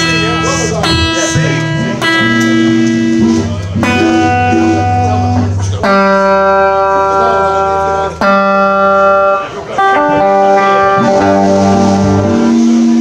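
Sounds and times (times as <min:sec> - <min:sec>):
electric guitar chords ringing: 0:00.0 - 0:13.0.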